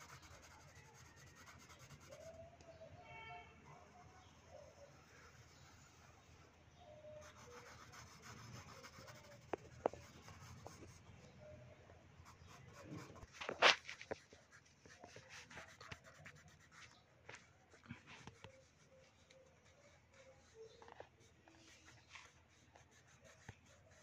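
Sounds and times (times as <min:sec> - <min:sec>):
pencil scratching on paper: 0:00.0 - 0:02.4, 0:03.6 - 0:06.4, 0:07.1 - 0:11.1, 0:12.2 - 0:24.0.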